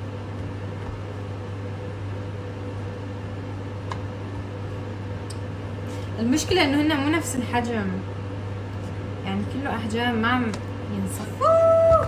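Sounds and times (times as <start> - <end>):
electrical hum of kitchen appliance: 0.0 - 12.0.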